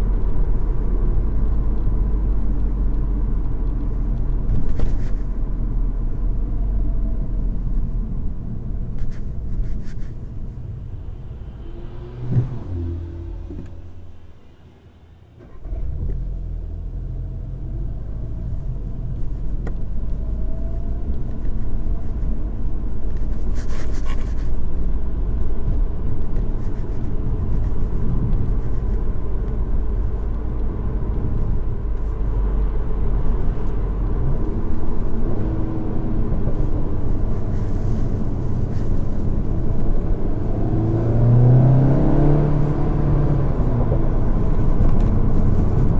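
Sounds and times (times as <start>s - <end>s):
car engine drone from inside cabin: 0.0s - 45.9s.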